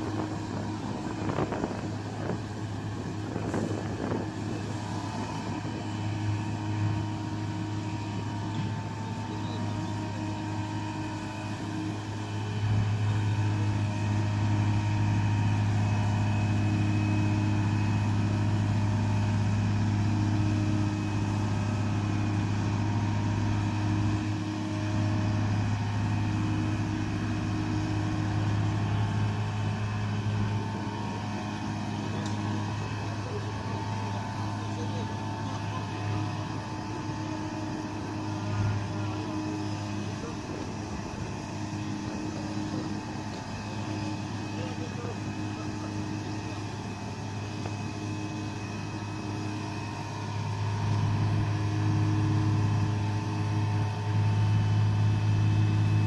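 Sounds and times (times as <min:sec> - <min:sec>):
crane engine droning: 0:00.0 - 0:56.0.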